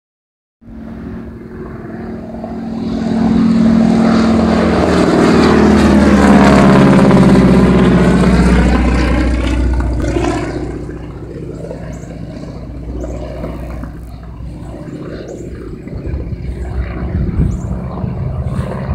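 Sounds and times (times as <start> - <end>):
airplane flying low overhead: 0.6 - 18.9.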